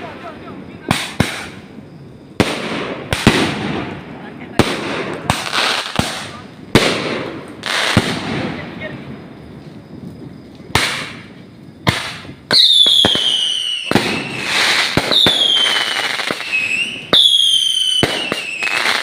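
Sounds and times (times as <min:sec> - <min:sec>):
firework bangs: 0:00.0 - 0:09.4, 0:10.6 - 0:19.0
firework crackle: 0:00.0 - 0:19.0
whistling fireworks: 0:00.0 - 0:19.0.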